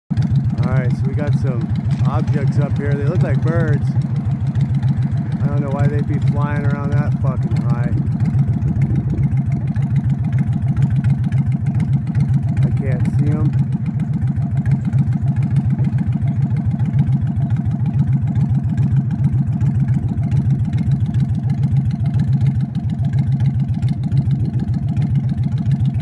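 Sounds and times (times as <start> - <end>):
engine humming steadily: 0.1 - 26.0.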